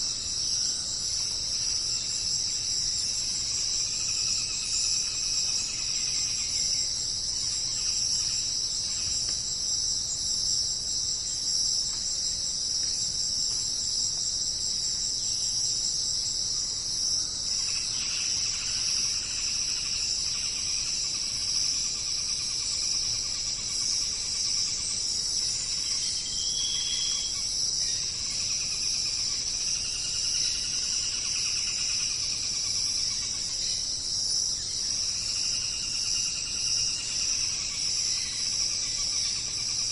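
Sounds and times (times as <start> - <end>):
crickets trilling: 0.0 - 39.9
lower insect trill: 0.0 - 39.9.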